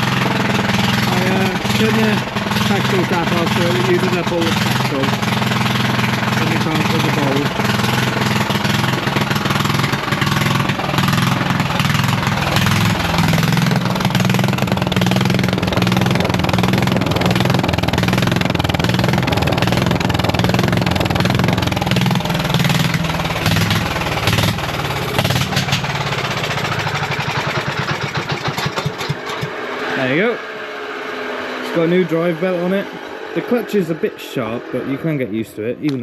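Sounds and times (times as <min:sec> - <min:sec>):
lawn mower engine running hard: 0:00.0 - 0:35.4.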